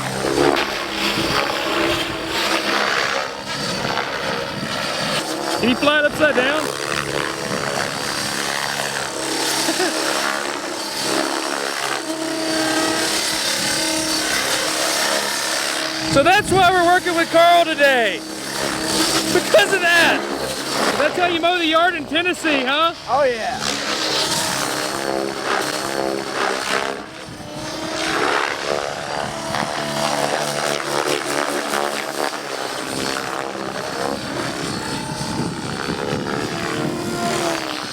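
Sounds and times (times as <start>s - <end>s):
model helicopter buzzing: 0.0s - 37.9s.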